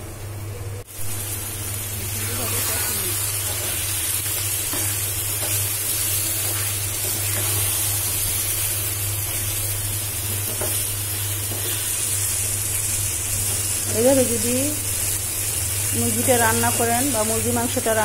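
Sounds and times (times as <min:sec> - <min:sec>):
meat sizzling in a frying pan: 0:00.9 - 0:18.0.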